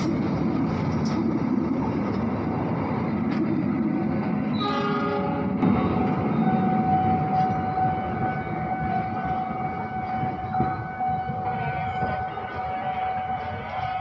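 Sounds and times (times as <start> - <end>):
train running on the line: 0.0 - 14.0.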